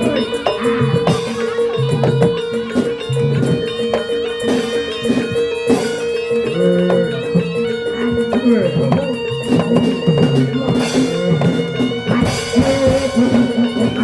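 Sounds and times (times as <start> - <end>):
drum strokes: 0.0 - 14.0
held steady tone: 0.0 - 14.0.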